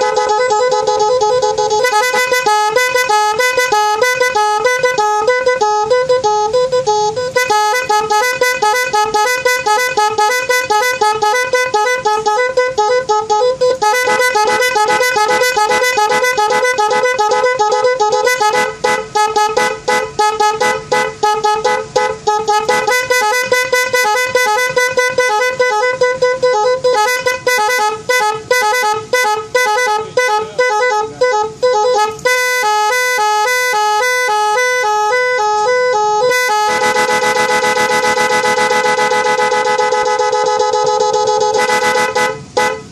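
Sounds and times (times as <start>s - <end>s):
electric vehicle horn patterns: 0.0s - 42.9s.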